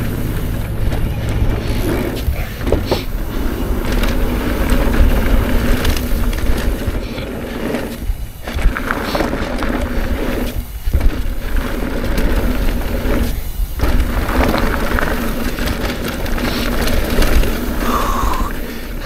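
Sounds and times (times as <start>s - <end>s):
electric motor hum: 0.0s - 19.0s
tyres rumbling over dirt: 0.0s - 19.0s
wind buffeting microphone: 0.0s - 19.0s.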